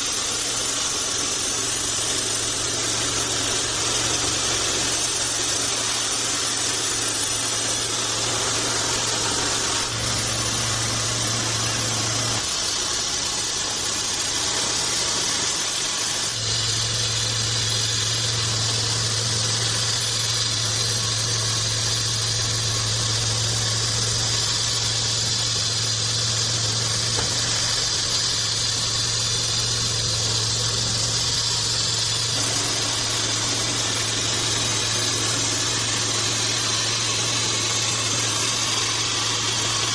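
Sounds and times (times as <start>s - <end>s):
high hiss of sawmill: 0.0s - 39.9s
low machine hum: 0.0s - 39.9s.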